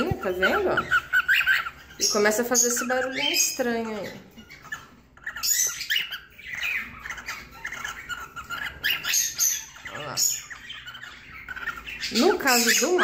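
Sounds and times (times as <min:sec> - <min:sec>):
cockatiel chirps and squawks: 0:00.0 - 0:13.0.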